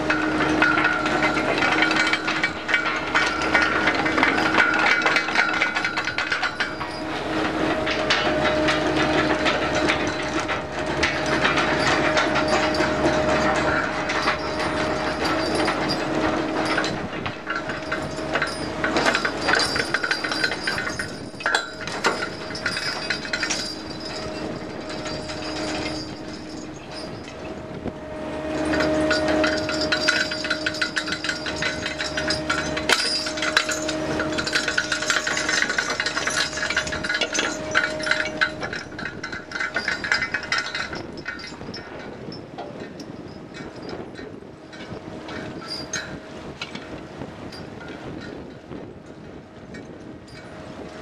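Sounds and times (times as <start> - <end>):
chain clanking and rattling: 0.0 - 51.0
hauling machinery whine: 0.0 - 51.0.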